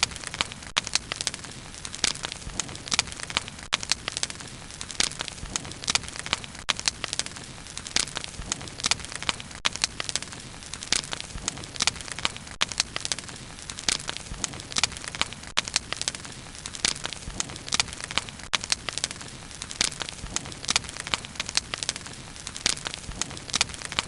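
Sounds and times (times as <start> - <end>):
wood crackling and popping: 0.0 - 24.0.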